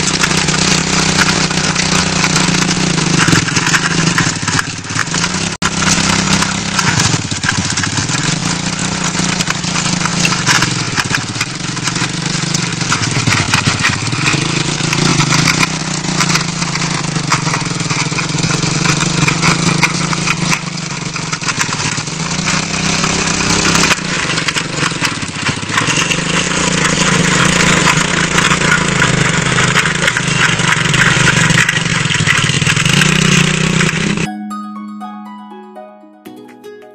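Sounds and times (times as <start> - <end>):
motorcycle engine running: 0.0 - 34.3.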